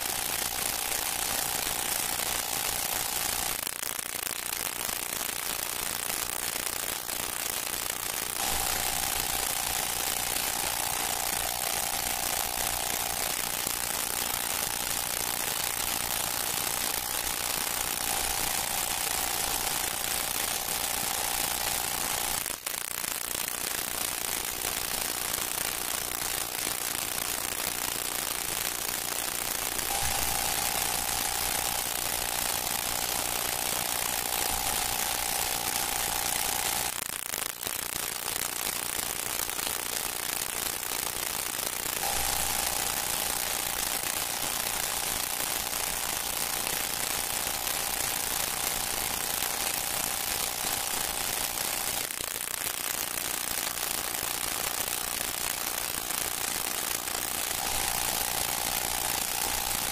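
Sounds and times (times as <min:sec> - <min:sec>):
film soundtrack hiss and crackle: 0:00.0 - 0:59.9.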